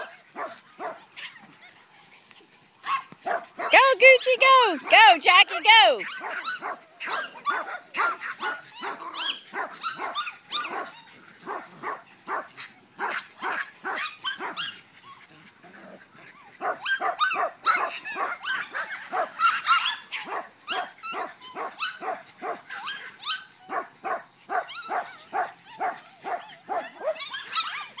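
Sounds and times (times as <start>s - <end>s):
dogs barking excitedly: 0.0s - 28.0s.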